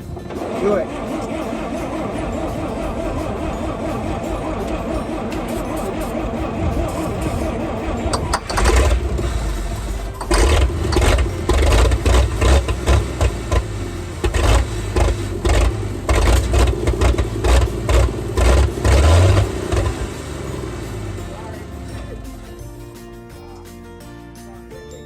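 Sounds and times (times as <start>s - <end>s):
truck engine cranking: 0.0s - 23.3s.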